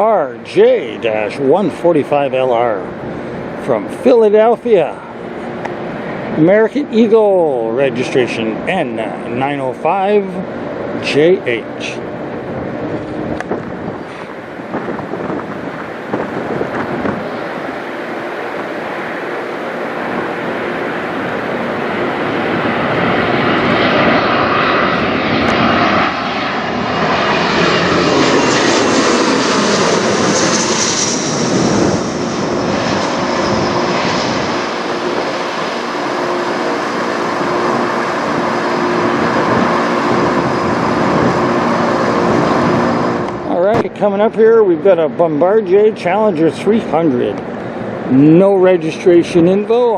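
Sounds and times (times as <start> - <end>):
jet engines passing overhead: 0.0 - 49.9.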